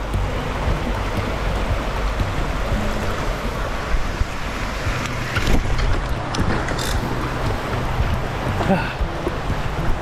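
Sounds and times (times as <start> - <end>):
river water rushing: 0.0 - 10.0
wind buffeting microphone: 0.0 - 10.0.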